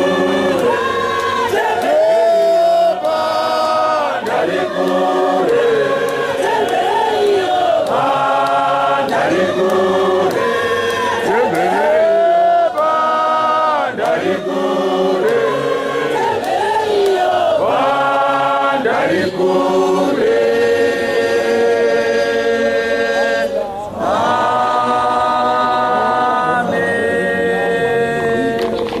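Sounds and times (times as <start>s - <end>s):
choir singing in long held notes: 0.0s - 29.0s.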